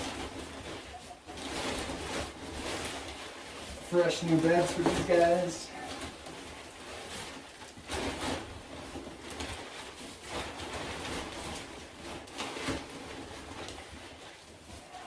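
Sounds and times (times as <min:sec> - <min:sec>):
plastic bag crinkling: 0:00.0 - 0:15.0
wood shavings rustling: 0:00.0 - 0:15.0.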